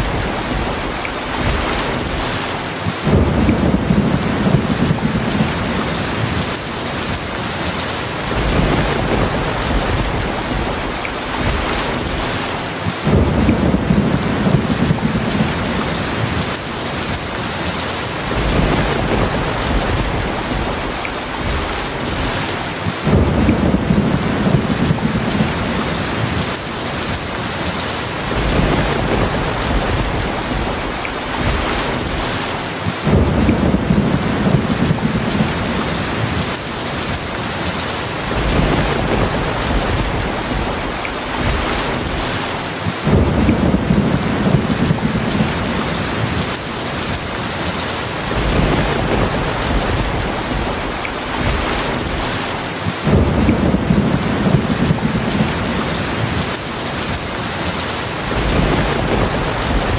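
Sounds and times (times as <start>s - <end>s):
low rumbles of thunder: 0.0s - 7.1s, 8.2s - 17.1s, 18.2s - 27.1s, 28.1s - 37.1s, 38.2s - 42.4s, 43.0s - 47.1s, 48.2s - 57.2s, 58.2s - 59.9s
heavy rain falling: 0.0s - 59.9s.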